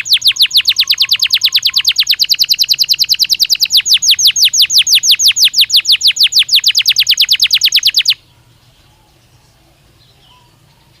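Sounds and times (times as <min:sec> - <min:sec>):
canary singing fast trill: 0:00.0 - 0:09.4
faint background hiss: 0:00.0 - 0:11.0.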